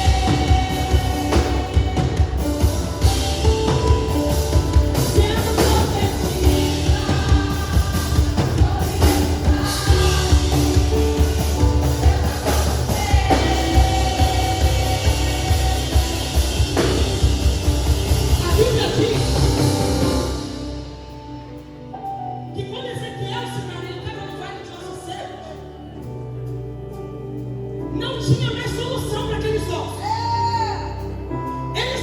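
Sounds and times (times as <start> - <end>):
worship song with drums bass and singing: 0.0 - 32.0.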